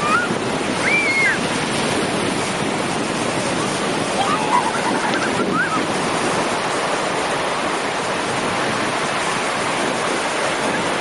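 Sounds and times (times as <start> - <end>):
sea surf washing: 0.0 - 11.0.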